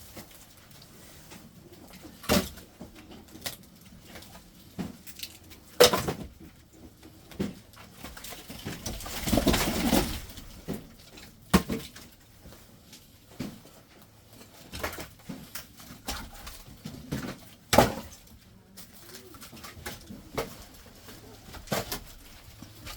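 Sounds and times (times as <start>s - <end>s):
firewood logs knocking together: 2.2s - 12.6s, 14.4s - 22.9s.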